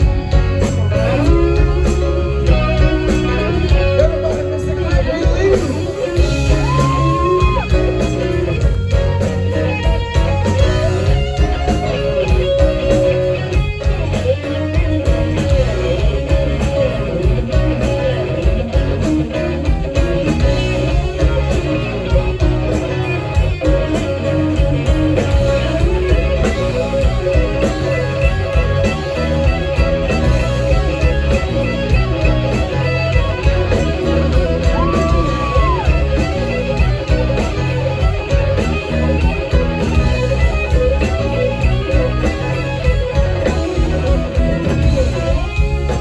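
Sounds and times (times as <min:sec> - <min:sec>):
bass: 0:00.0 - 0:46.0
electric guitar melody: 0:00.0 - 0:46.0
steady drum beat: 0:00.0 - 0:46.0.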